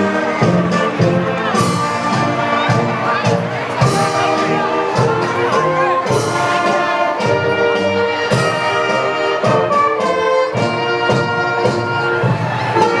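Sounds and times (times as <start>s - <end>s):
concert band playing: 0.0s - 13.0s.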